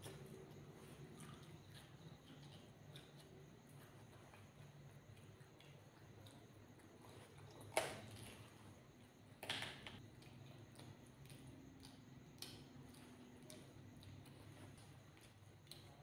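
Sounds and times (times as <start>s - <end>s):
person chewing food: 0.0s - 9.4s, 10.0s - 16.0s
faint low hum: 0.0s - 16.0s.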